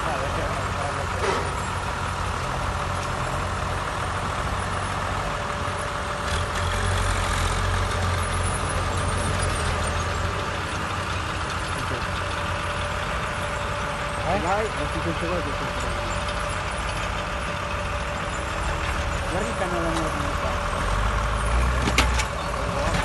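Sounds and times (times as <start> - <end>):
diesel tractor engines rumbling: 0.0 - 23.0.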